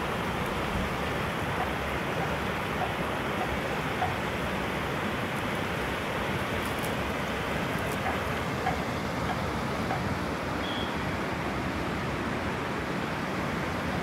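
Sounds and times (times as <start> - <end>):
water rushing over weir: 0.0 - 14.0.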